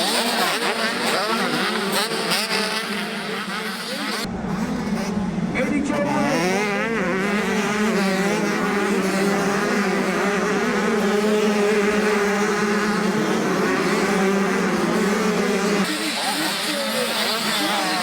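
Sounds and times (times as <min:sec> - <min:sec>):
motorbike engines revving high: 0:00.0 - 0:18.0.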